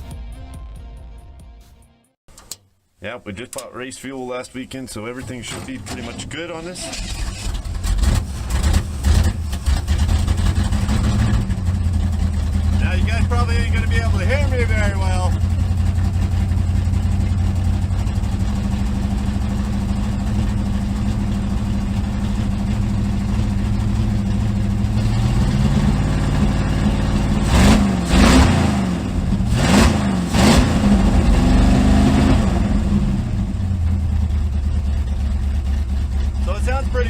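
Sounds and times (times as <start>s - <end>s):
race car engine idling and revving: 5.6s - 37.0s.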